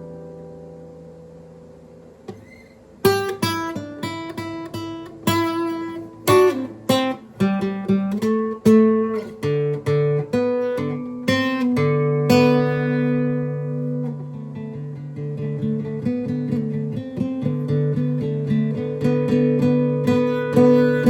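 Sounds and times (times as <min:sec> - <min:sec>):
guitar chords strummed: 0:00.0 - 0:21.0.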